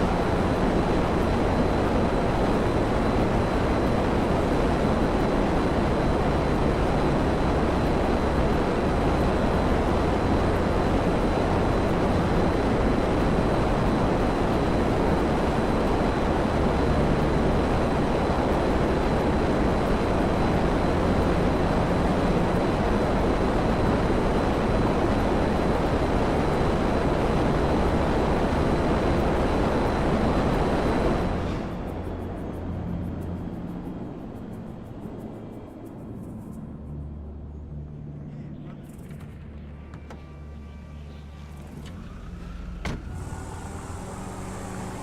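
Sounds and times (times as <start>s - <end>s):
faint high whine: 0.0s - 45.0s
steady rushing noise: 0.0s - 45.0s.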